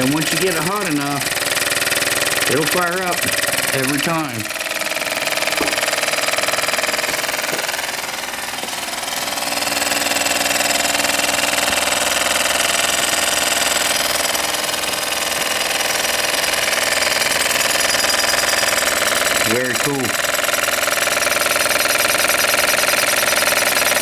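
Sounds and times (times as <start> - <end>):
small steam engine running: 0.0 - 24.0.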